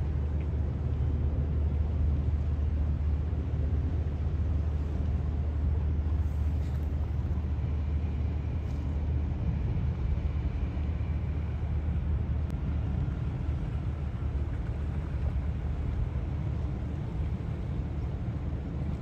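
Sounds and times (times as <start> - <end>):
low rumble of boat engines: 0.0 - 19.0.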